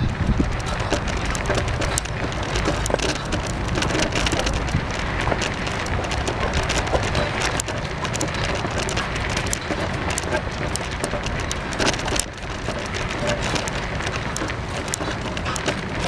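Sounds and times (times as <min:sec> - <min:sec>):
bicycle tyres crunching on dirt: 0:00.0 - 0:16.0
small clicks and rattles: 0:00.0 - 0:16.0.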